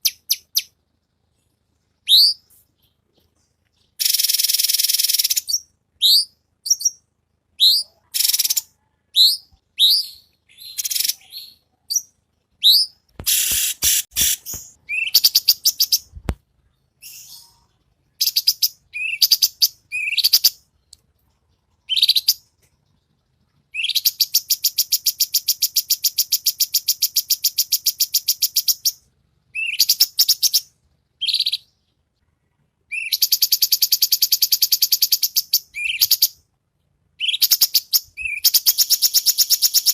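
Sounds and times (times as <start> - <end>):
bird singing whistled notes and trills: 0.0 - 0.8, 2.0 - 13.5, 14.3 - 20.9, 21.7 - 32.0, 32.9 - 36.4, 37.2 - 39.9.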